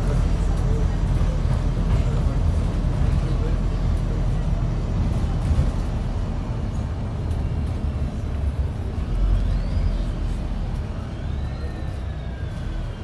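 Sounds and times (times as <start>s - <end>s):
bus engine rumble: 0.0s - 13.0s
road noise: 0.0s - 13.0s.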